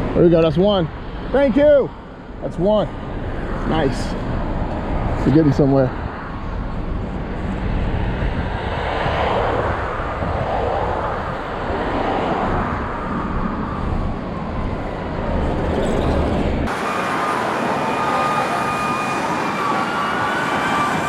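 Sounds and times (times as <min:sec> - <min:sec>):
cars driving past: 0:00.9 - 0:21.0.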